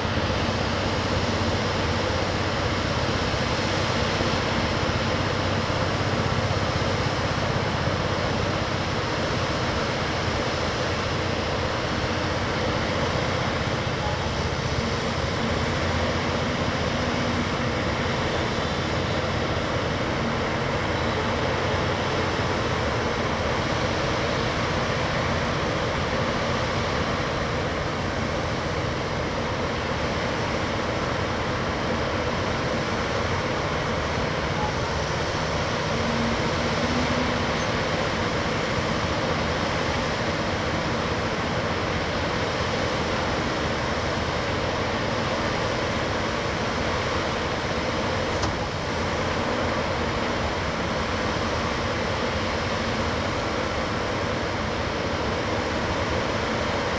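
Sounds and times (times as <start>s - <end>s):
backhoe engine running: 0.0s - 56.9s.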